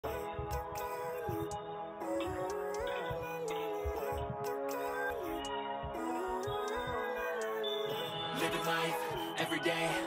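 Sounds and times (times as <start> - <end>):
music with gliding melody: 0.0 - 10.0.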